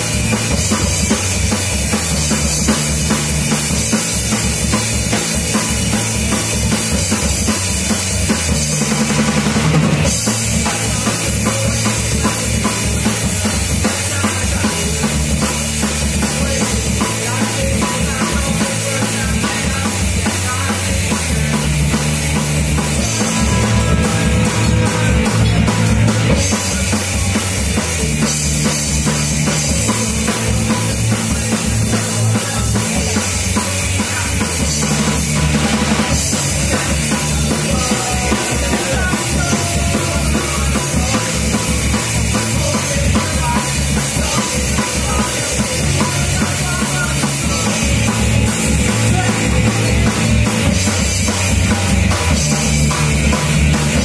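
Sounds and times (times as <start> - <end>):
bass guitar: 0.0 - 54.0
drum kit steady beat: 0.0 - 54.0
electric guitar: 0.0 - 54.0.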